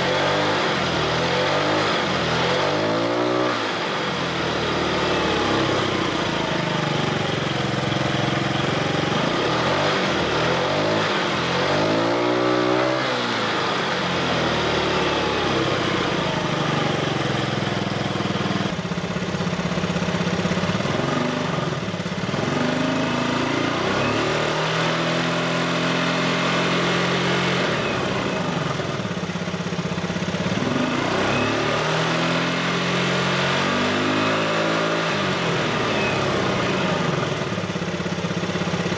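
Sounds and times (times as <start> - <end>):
scooter engine idling: 0.0 - 24.9, 27.6 - 32.6, 35.1 - 38.9
scooter throttle blips: 0.0 - 38.9.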